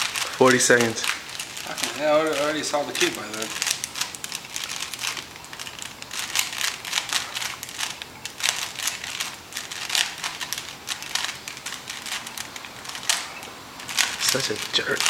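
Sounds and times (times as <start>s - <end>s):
plastic puzzle cube clicking: 0.0s - 15.0s.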